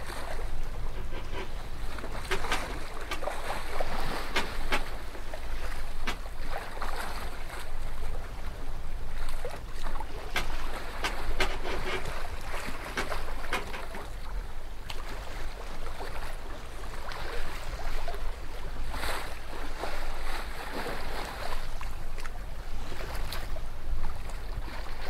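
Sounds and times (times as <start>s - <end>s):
water slapping boat hull: 0.0s - 25.0s.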